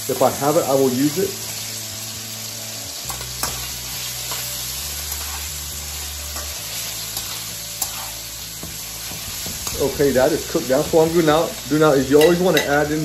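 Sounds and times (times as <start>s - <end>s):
pork sizzling in oil: 0.0s - 13.0s.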